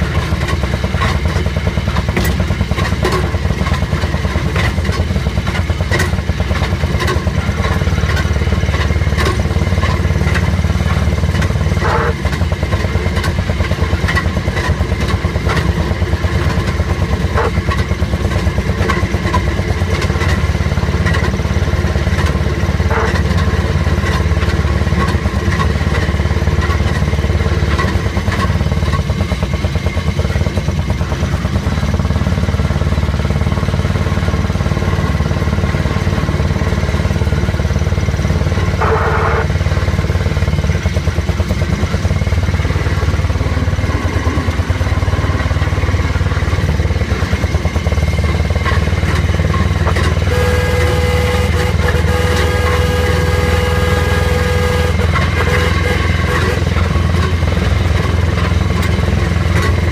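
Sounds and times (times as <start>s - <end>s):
small engine running: 0.0s - 59.9s
wheels clattering on rails: 0.0s - 59.9s.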